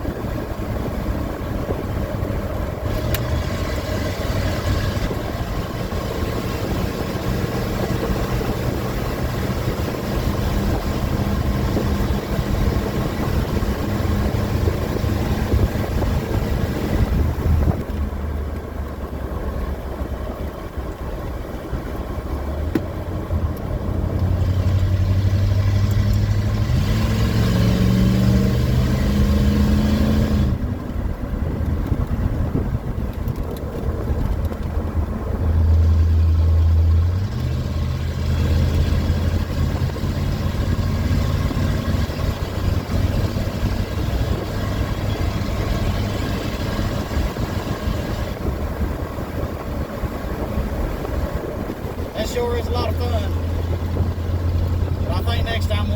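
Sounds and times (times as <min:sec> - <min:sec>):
pickup engine revving: 0:00.0 - 0:55.9.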